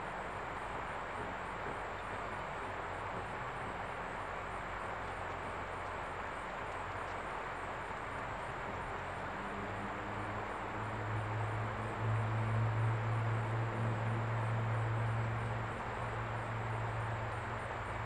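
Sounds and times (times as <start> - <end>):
diesel locomotive engine drone: 0.0 - 18.0
outdoor background noise: 0.0 - 18.0.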